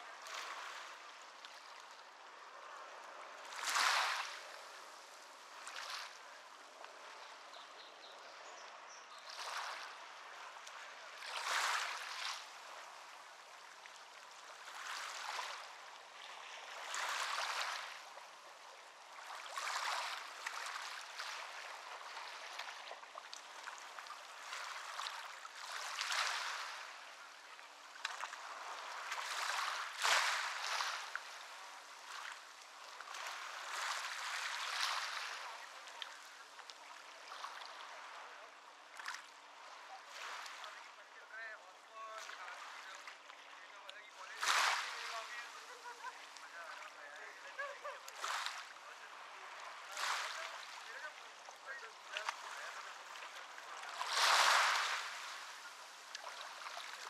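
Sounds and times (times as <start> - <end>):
background wash of water: 0.0 - 57.0
small waves splashing on shore: 0.0 - 57.0.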